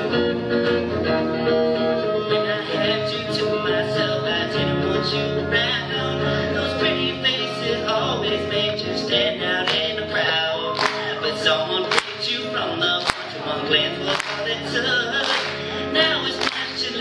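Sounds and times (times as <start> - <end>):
amplified electric guitar: 0.0 - 17.0
person singing: 2.0 - 17.0.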